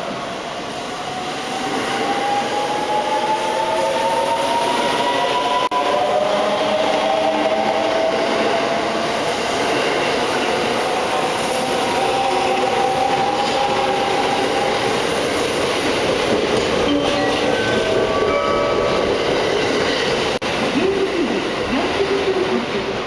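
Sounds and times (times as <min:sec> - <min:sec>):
electric train rolling past: 0:00.0 - 0:23.0.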